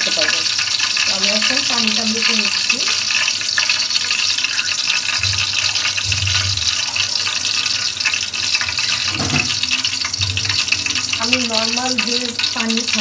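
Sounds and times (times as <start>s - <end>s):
hot oil sizzling in pot: 0.0s - 13.0s.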